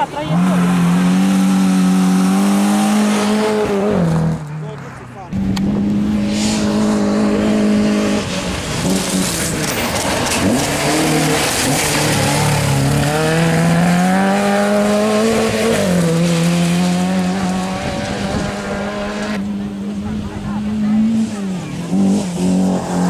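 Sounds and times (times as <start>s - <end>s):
rally car engine at high revs: 0.0s - 23.0s.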